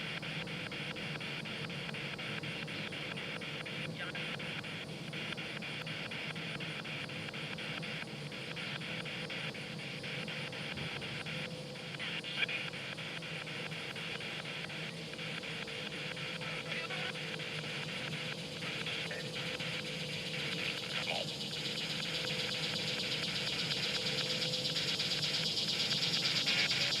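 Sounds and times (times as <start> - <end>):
choppy radio static: 0.0 - 27.0.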